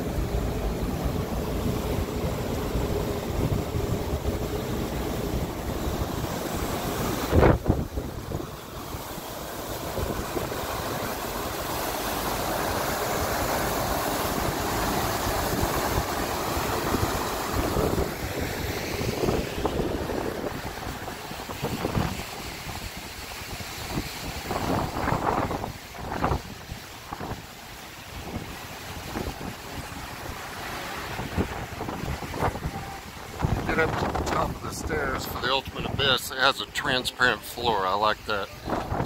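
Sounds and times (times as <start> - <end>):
wind buffeting microphone: 0.0 - 36.2, 38.6 - 39.0
water rushing over wave: 0.0 - 39.0.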